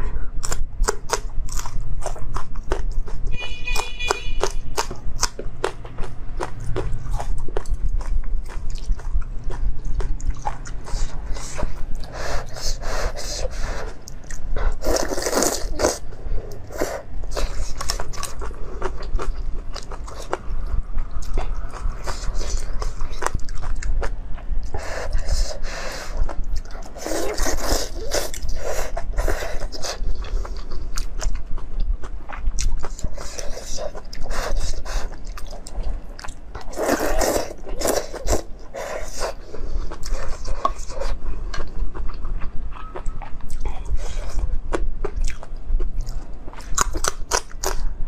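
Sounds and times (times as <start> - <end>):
chewing: 0.4 - 47.9.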